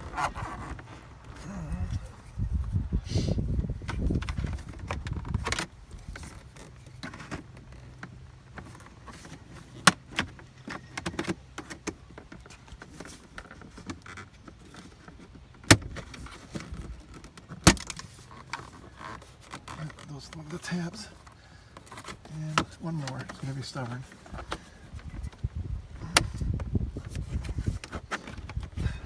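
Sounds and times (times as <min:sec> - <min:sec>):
plastic rubbing and clicking: 0:03.6 - 0:29.0.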